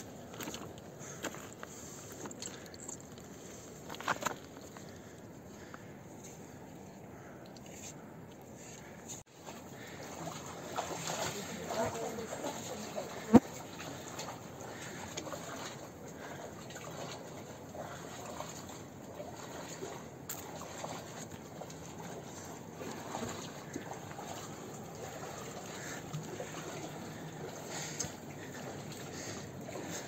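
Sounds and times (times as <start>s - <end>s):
stream water trickling: 0.0s - 7.6s, 9.2s - 30.0s.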